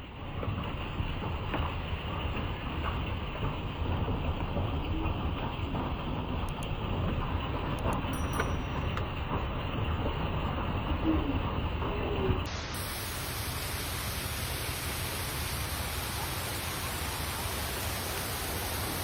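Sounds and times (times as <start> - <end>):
wind and rain roaring: 0.0 - 19.0.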